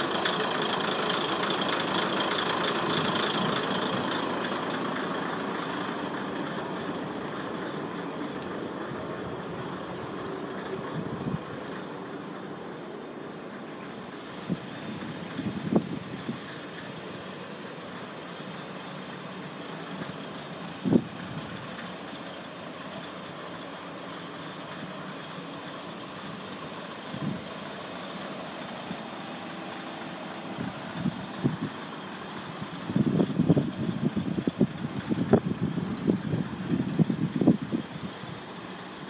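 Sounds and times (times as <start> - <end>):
diesel railcar engine idling: 0.0 - 39.0.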